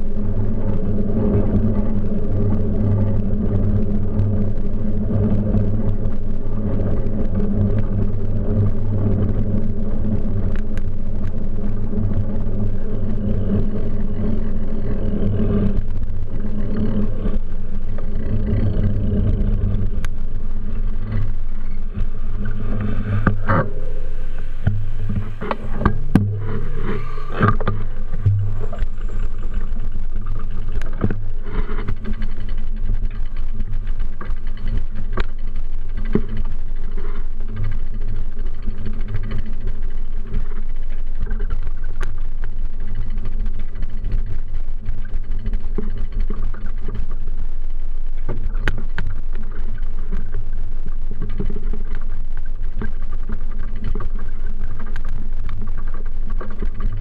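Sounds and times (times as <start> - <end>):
bicycle road vibration rumble: 0.0 - 57.0
wind noise on microphone: 0.0 - 57.0.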